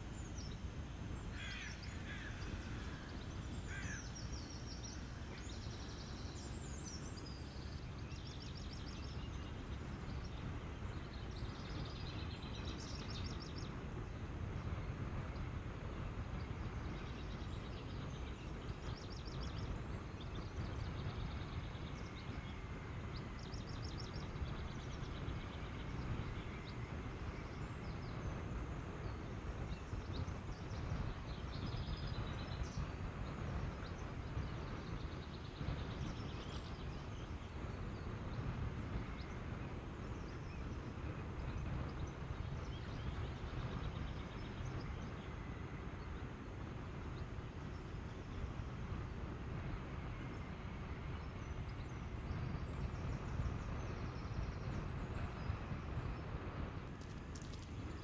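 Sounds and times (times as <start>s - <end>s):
small birds chirping: 0.0s - 58.0s
wind and road noise rumble: 0.0s - 58.0s.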